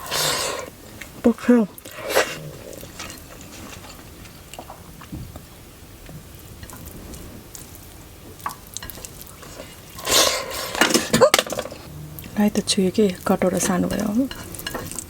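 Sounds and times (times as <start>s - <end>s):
quiet chewing: 0.0s - 15.0s.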